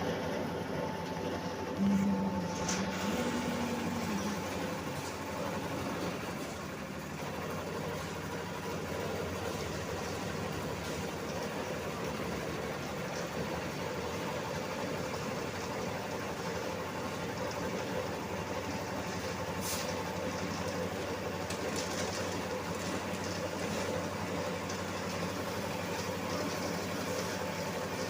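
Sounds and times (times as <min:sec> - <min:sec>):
construction machinery engine running: 0:00.0 - 0:28.0.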